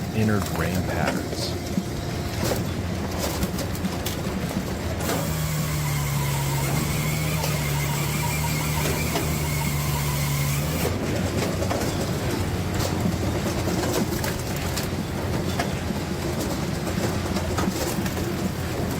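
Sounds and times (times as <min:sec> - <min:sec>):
high machine whine: 0:00.0 - 0:18.9
machine low hum: 0:00.0 - 0:18.9.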